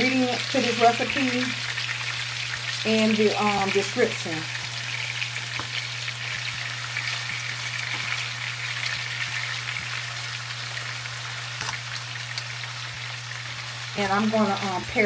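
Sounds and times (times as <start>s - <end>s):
chicken frying in oil: 0.0s - 15.0s.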